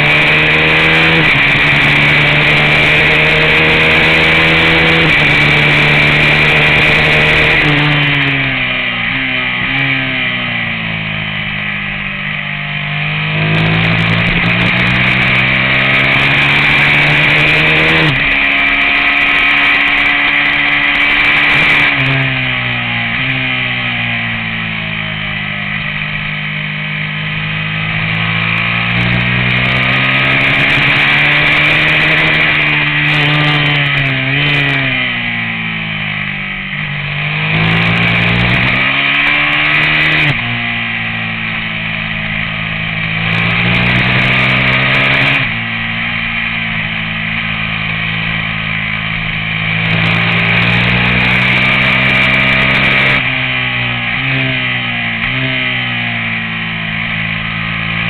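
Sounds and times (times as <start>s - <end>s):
race motorcycle engine revving: 0.0s - 58.0s.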